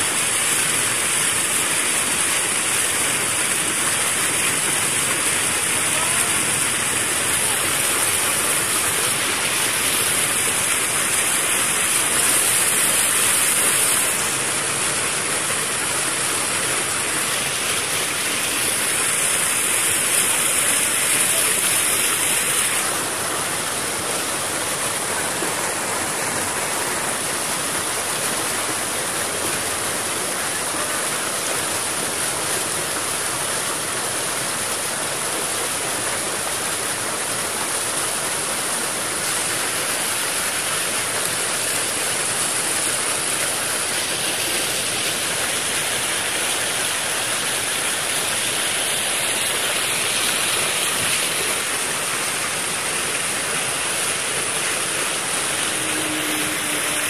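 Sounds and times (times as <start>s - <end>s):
floodwater rushing and churning: 0.0s - 57.0s.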